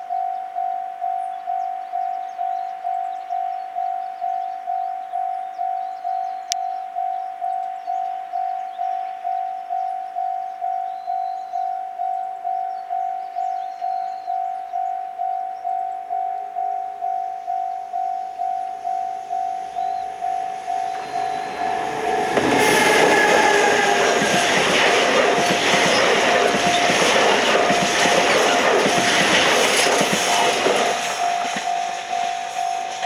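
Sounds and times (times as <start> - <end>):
level crossing warning bell: 0.0 - 33.0.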